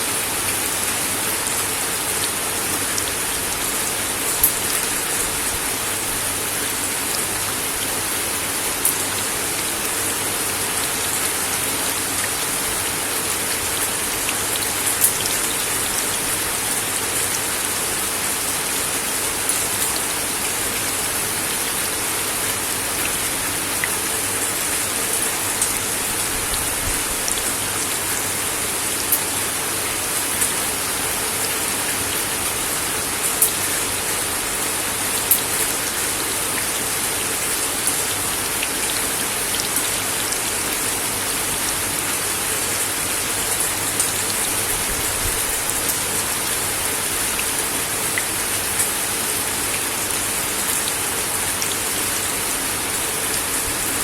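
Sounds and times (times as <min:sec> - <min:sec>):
rain on a wooden deck: 0:00.0 - 0:54.0.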